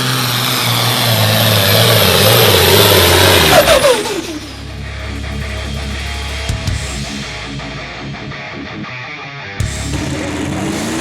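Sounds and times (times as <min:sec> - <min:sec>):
truck engine at full throttle: 0:00.0 - 0:08.7, 0:09.6 - 0:11.0.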